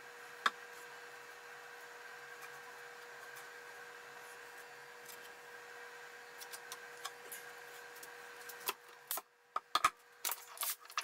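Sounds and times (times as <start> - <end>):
shop background hum: 0.0 - 11.0.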